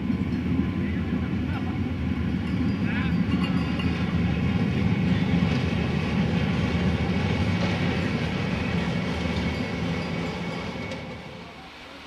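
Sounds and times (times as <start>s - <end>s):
electric railcar running rumble: 0.0s - 12.0s.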